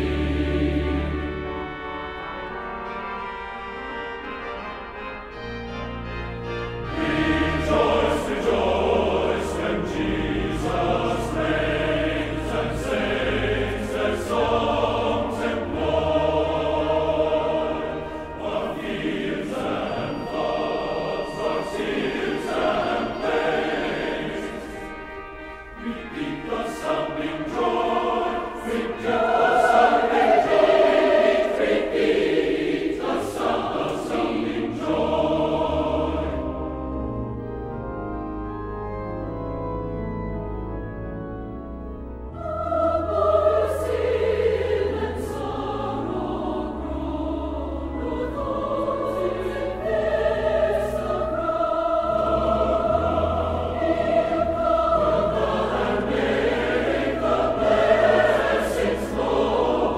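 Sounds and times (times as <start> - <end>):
choir singing: 0.0 - 5.4, 6.0 - 37.5, 42.2 - 59.9.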